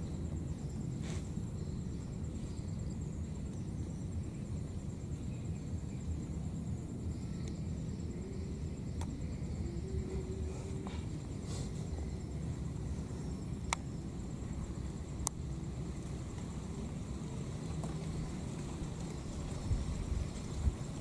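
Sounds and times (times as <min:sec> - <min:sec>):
high insect trill: 0:00.0 - 0:21.0
low outdoor rumble: 0:00.0 - 0:21.0.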